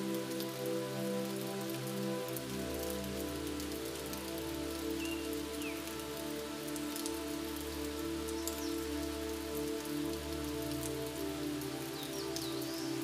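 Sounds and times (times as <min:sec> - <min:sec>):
raindrops ticking: 0:00.0 - 0:13.0
steady rain: 0:00.0 - 0:13.0.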